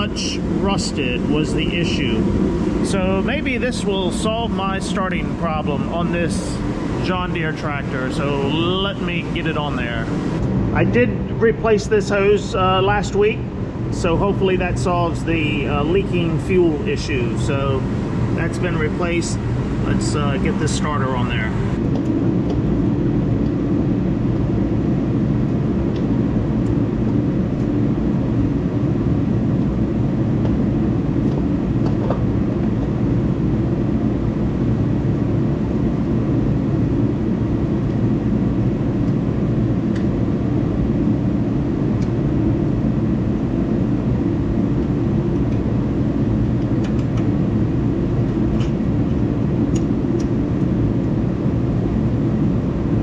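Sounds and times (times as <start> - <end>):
low mechanical drone: 0.0 - 53.0.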